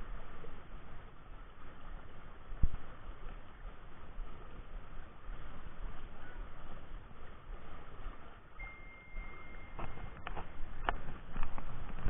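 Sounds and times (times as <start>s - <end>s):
river rushing: 0.0s - 12.0s
wind rumble on microphone: 0.0s - 12.0s.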